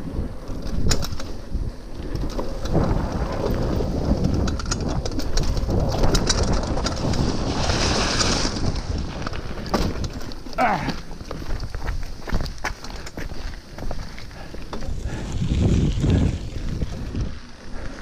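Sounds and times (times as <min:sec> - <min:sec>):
mountain bike rattling on dirt trail: 0:00.0 - 0:18.0
wind buffeting microphone: 0:00.0 - 0:18.0.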